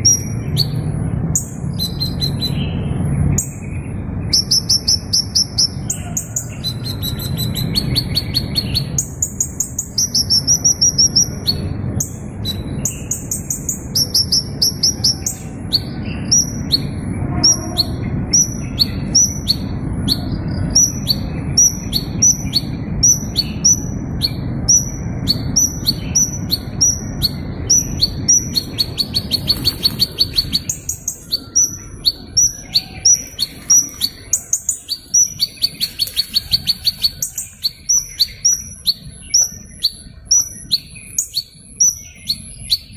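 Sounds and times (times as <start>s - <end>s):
small bird chirping: 0.0s - 17.0s, 17.7s - 42.9s.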